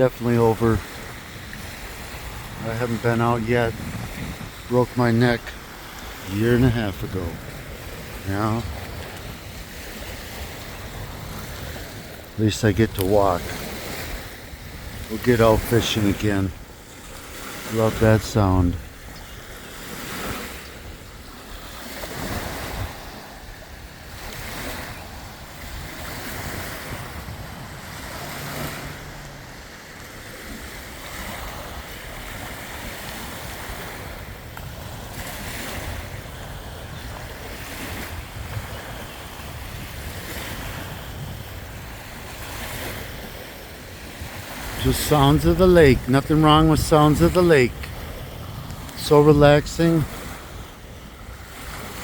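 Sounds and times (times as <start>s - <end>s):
waves lapping on shore: 0.0s - 52.0s
wind on microphone: 0.0s - 52.0s.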